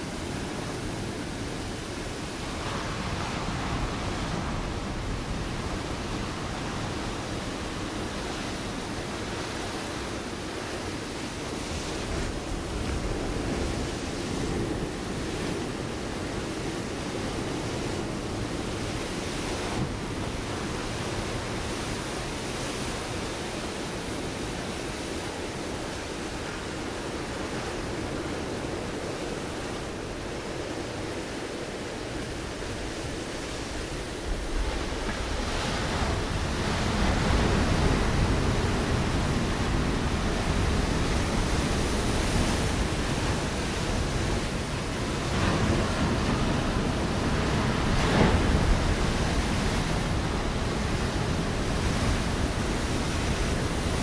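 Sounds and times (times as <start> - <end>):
waves breaking on rocky shore: 0.0 - 54.0
wind on microphone: 0.0 - 54.0.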